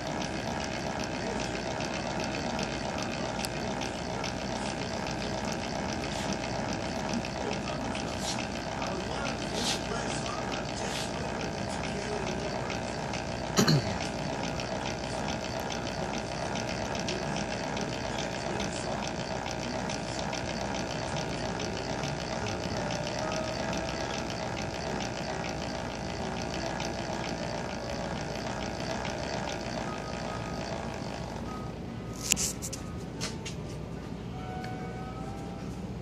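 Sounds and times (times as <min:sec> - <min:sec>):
milling machine cutting metal: 0:00.0 - 0:31.5.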